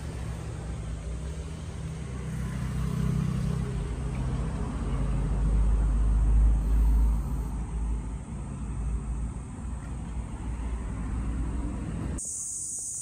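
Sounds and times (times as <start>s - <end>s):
car engine passing by: 0.0s - 12.2s.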